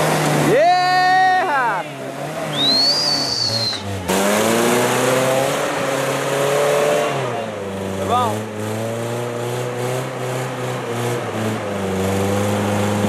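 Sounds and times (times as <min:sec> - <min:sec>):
truck engine pulling under load: 0:01.5 - 0:13.0.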